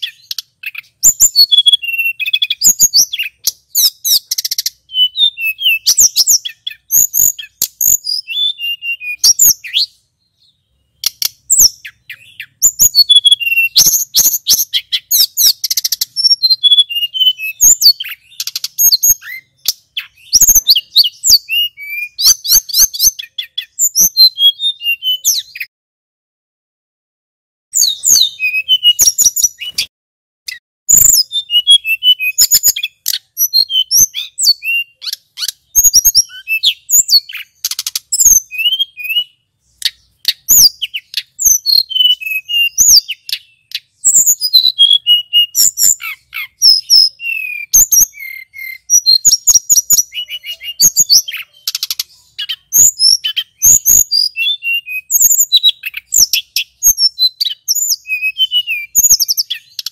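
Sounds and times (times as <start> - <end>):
bird singing: 0.0 - 25.7, 27.7 - 29.9, 30.5 - 59.9.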